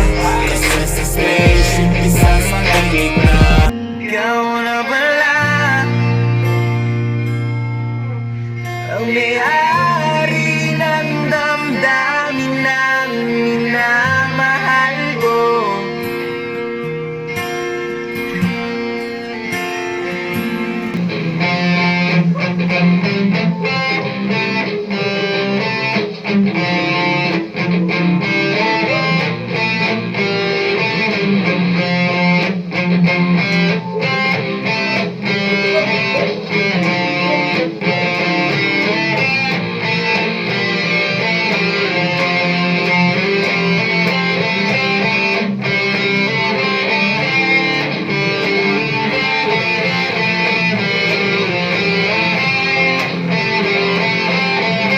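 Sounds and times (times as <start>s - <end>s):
electric guitar strumming and picking: 0.0s - 54.9s.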